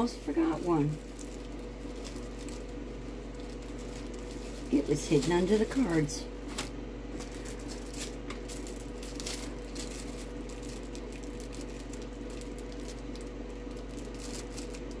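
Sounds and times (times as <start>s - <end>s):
low electrical hum: 0.0s - 15.0s
coin in plastic packaging handled: 1.1s - 5.8s, 6.4s - 15.0s.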